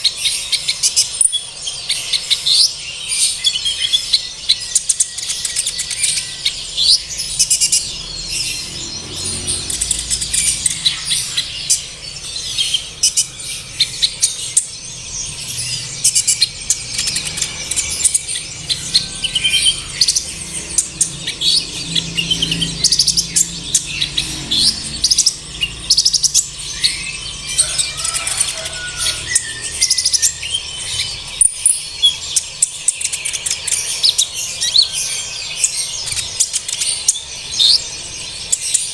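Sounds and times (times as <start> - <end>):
sunbird twittering chirps and trills: 0.0 - 38.9.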